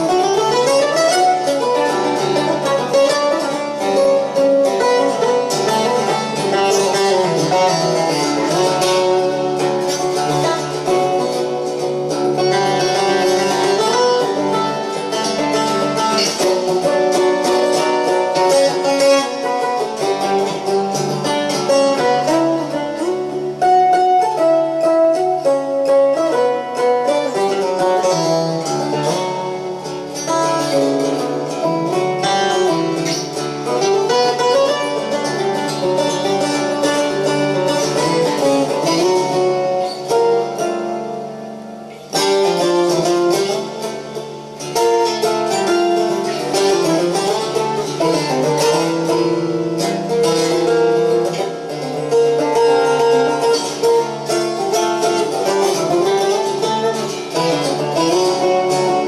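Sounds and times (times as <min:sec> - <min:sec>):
long-necked lute picked melody: 0:00.0 - 0:59.0.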